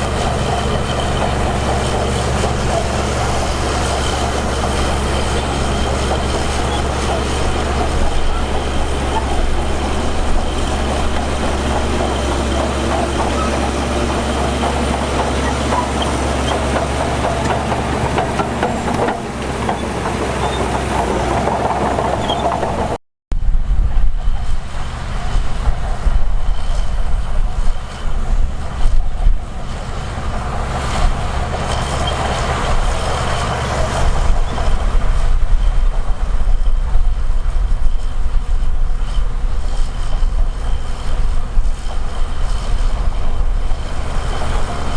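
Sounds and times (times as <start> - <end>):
heavy diesel machinery running: 0.0 - 44.9.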